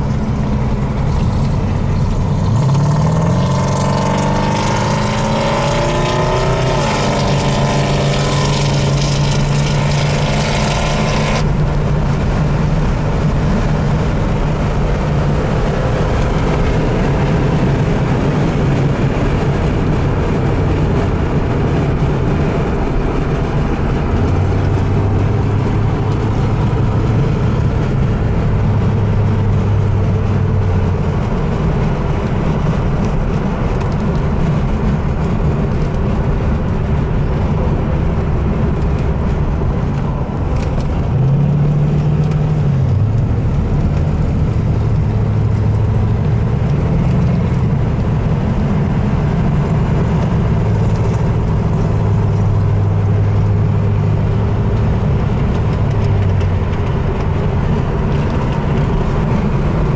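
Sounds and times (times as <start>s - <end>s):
car engine running in cabin: 0.0s - 59.9s.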